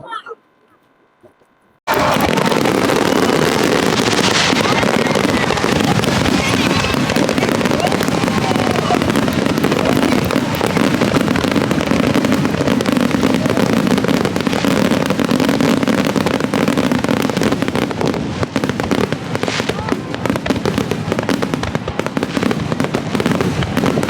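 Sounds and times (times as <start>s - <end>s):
fireworks crackling and banging: 1.9s - 24.0s.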